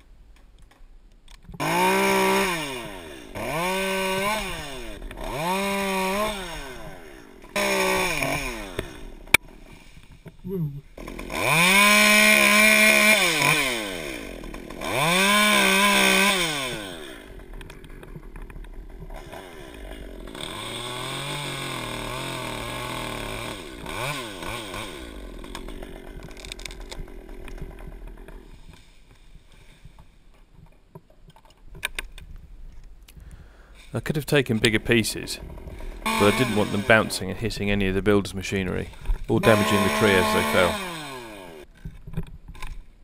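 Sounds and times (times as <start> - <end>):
chainsaw cutting branches: 1.6 - 10.0, 10.9 - 30.0, 34.6 - 41.8.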